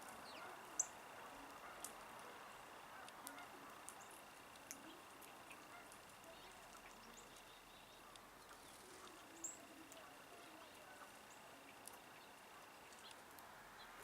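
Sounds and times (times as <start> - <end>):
bird chirps and clicks: 0.0 - 2.3, 3.0 - 14.0
faint steady high hum: 0.0 - 14.0.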